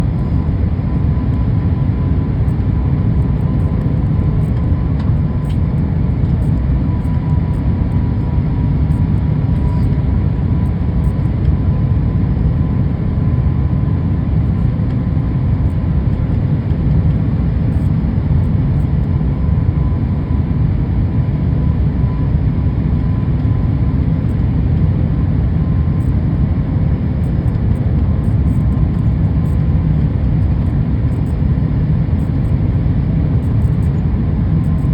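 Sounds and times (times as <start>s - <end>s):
faint steady whine: 0.0s - 34.9s
jet engine and airflow rumble: 0.0s - 34.9s.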